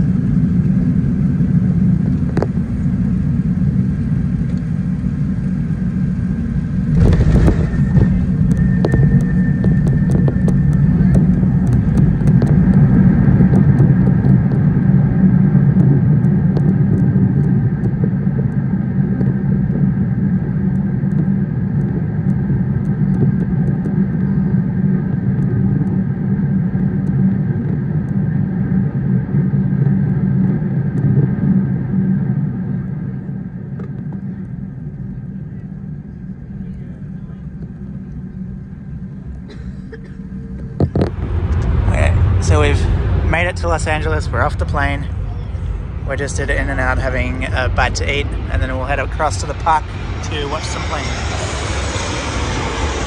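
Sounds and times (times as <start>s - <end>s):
airplane cabin roar: 0.0s - 53.0s.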